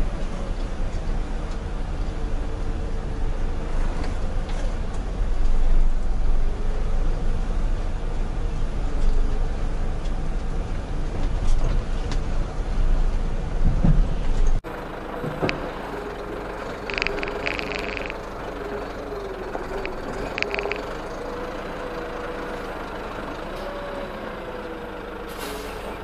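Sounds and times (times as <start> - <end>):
road noise: 0.0 - 26.0
truck engine rumble: 0.0 - 26.0.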